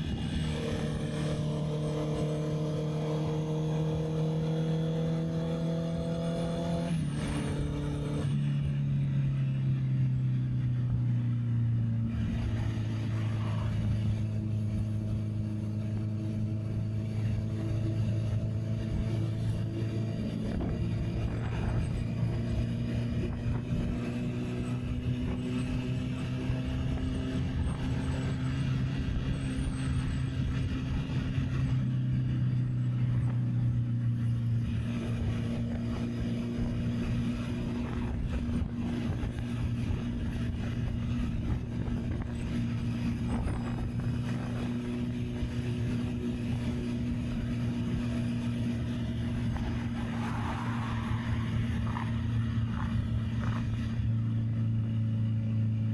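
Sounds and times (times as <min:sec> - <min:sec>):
wind noise on microphone: 0:00.0 - 0:08.4, 0:12.0 - 0:55.1
motorcycle engine cruising: 0:00.0 - 0:55.9.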